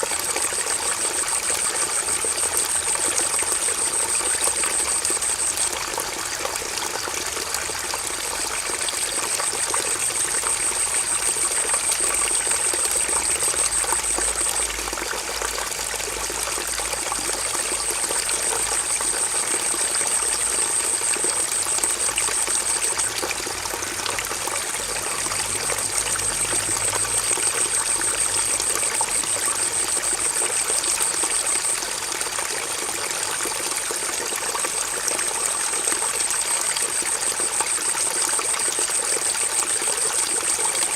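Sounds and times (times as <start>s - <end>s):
stream water flowing and splashing: 0.0s - 40.9s.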